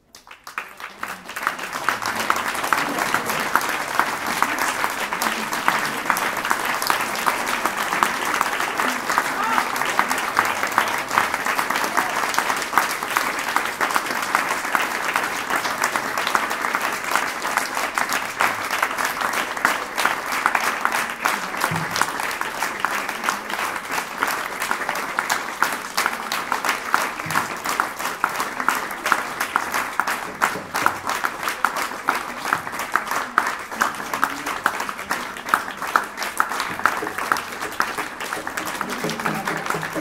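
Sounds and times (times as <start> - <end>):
audience applauding: 0.0 - 40.0.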